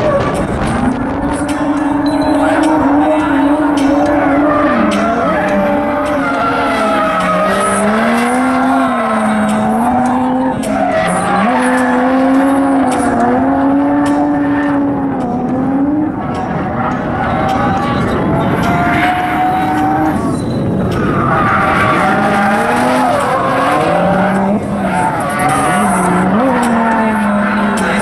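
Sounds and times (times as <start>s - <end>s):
car engine revving: 0.0s - 28.0s
tyres spinning and squealing: 0.0s - 28.0s.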